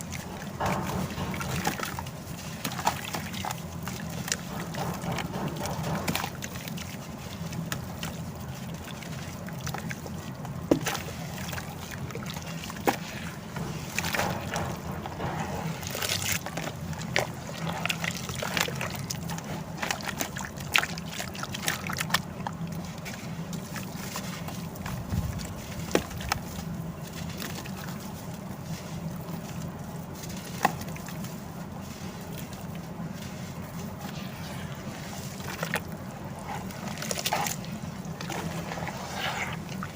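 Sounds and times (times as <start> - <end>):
cement chunks crunching: 0.0 - 39.9
steady low hum: 0.0 - 39.9
water sloshing: 0.0 - 39.9.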